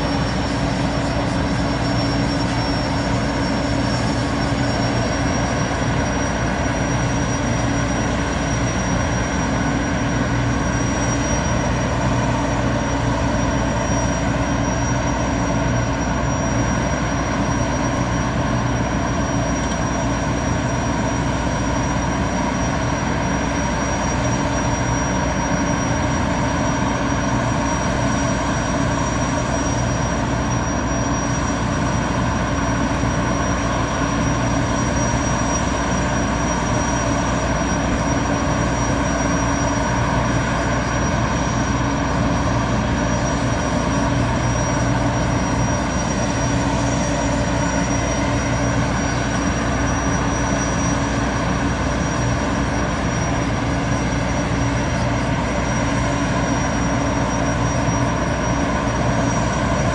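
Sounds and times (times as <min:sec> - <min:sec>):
gas turbines idling with high whine: 0:00.0 - 0:59.9.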